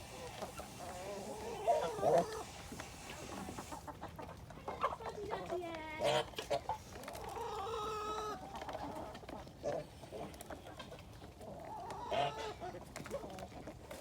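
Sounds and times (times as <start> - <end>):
chickens clucking: 0.0 - 13.8.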